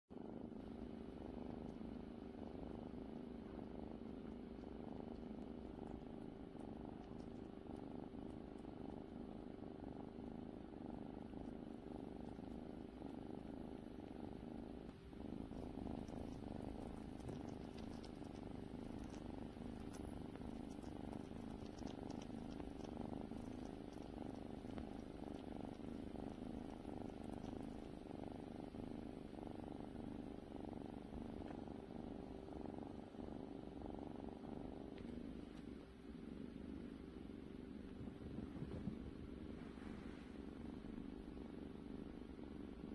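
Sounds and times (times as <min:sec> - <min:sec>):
cat purring: 0:00.1 - 0:42.9.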